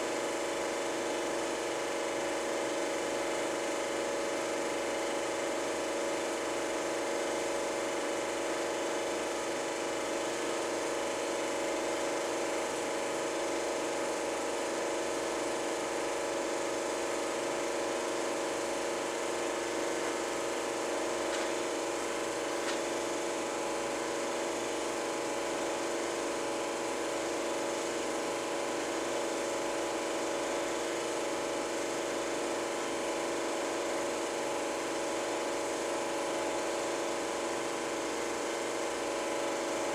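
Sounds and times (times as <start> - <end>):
film projector motor whirring: 7.4 - 39.9.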